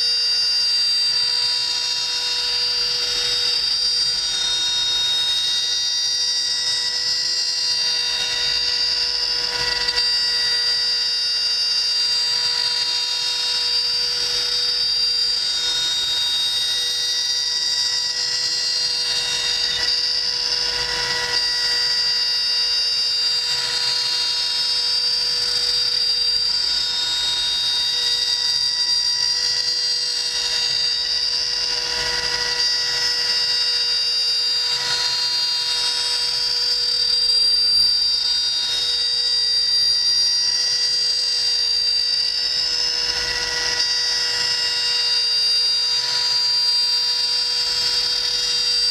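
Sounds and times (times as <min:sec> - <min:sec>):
cnc router spindle whine: 0:00.0 - 0:48.9.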